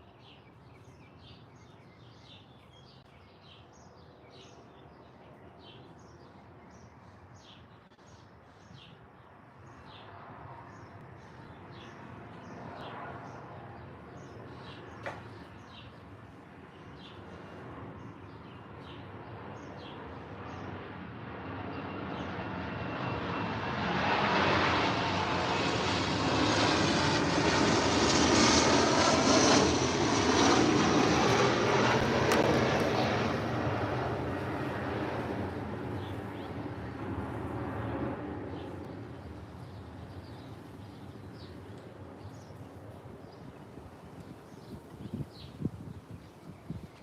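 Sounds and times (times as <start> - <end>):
aircraft passing over: 2.9 - 46.9.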